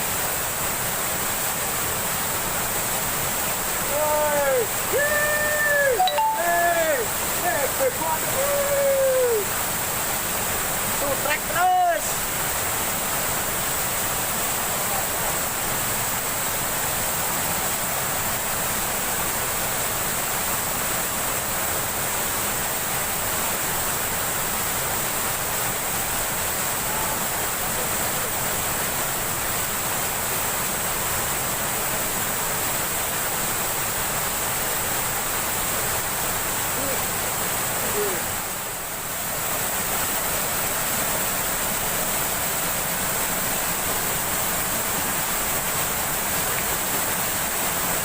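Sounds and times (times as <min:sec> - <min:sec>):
flowing water rushing: 0:00.0 - 0:48.0.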